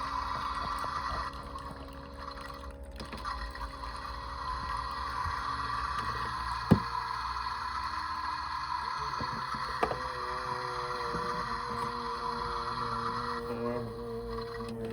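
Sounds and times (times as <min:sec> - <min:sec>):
toy washing machine motor whine: 0:00.0 - 0:14.9.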